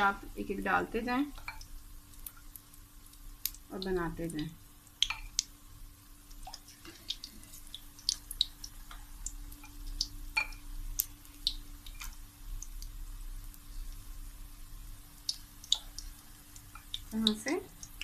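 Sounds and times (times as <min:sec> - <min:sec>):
faint steady hum: 0:00.0 - 0:18.0
food deep-frying in oil: 0:00.0 - 0:18.0.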